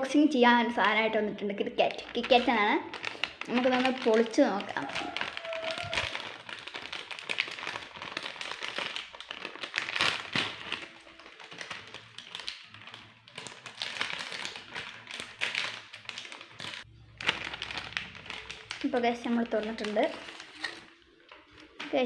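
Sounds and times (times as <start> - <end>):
plastic wrapper crinkling and tearing: 0.8 - 22.0.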